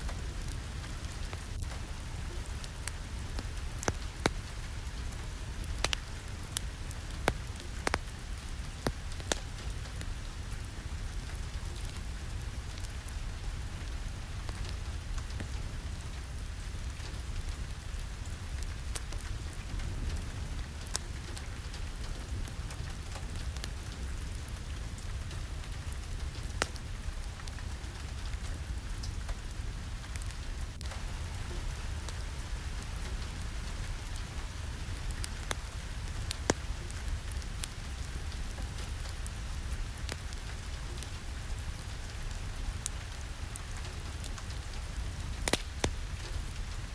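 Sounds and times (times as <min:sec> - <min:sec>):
raindrop clicks: 0:00.0 - 0:10.2, 0:13.8 - 0:39.4, 0:40.0 - 0:46.8
steady rain hissing: 0:00.0 - 0:46.9.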